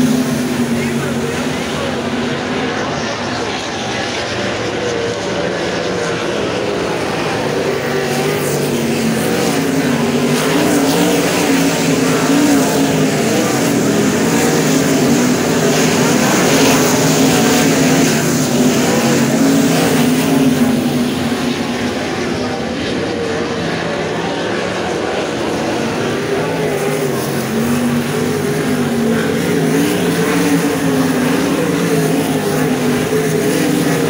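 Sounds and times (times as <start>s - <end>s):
racing car engines: 0.0s - 34.0s.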